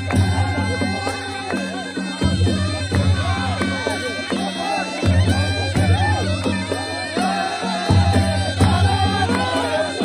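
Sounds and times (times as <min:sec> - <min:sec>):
beating drums: 0:00.0 - 0:10.0
reed pipes wailing melody: 0:00.0 - 0:10.0.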